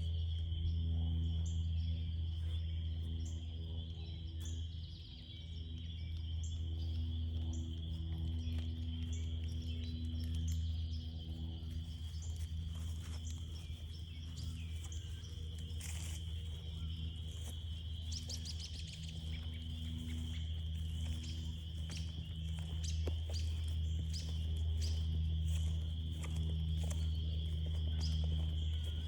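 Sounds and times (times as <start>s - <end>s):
frog chorus: 0.0s - 29.0s
low pulsing hum: 0.0s - 29.0s
footsteps on trail: 5.2s - 29.0s.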